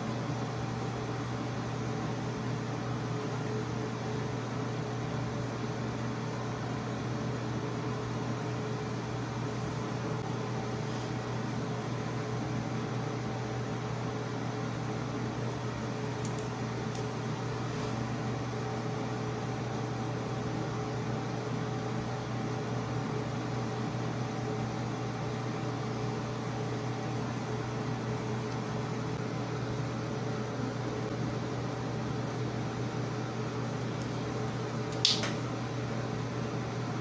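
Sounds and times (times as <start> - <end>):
fan whirring: 0.0 - 37.0.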